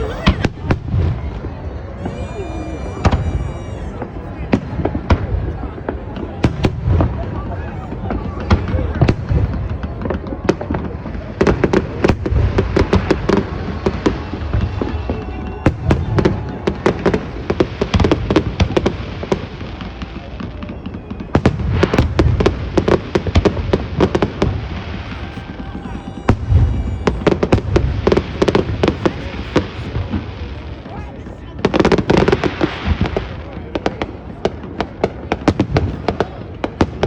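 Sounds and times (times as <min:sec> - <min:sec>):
fireworks bangs and booms: 0:00.0 - 0:37.0.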